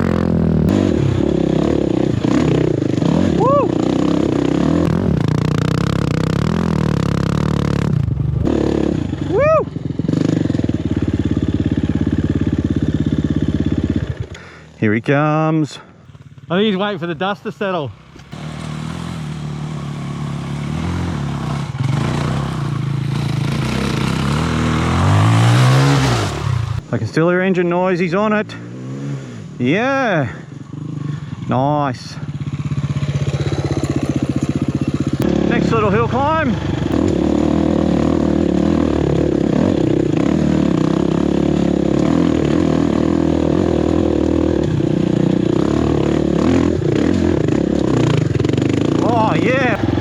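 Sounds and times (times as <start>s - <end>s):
dirt bike engine running: 0.0s - 15.0s, 15.9s - 50.0s.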